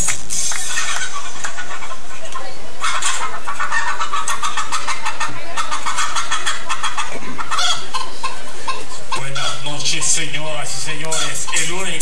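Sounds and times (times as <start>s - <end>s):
chicken-like clucking: 0.4s - 12.0s.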